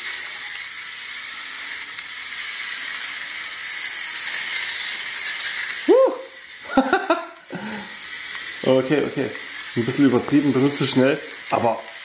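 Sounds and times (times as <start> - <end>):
toy race car whirring: 0.0 - 12.0.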